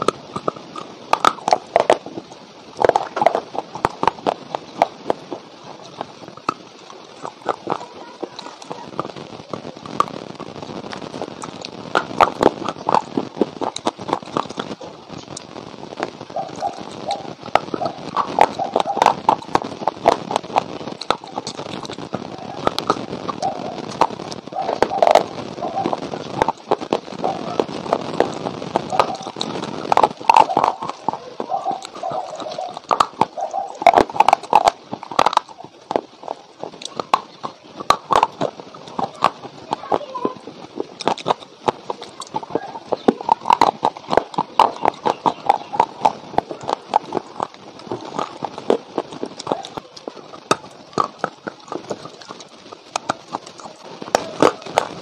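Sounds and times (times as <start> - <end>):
crunching and chewing clay: 0.0 - 55.0.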